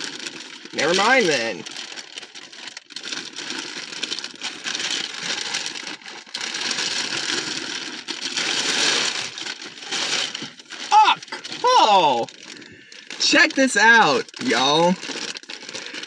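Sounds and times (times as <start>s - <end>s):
plastic bag rustling: 0.0s - 16.0s.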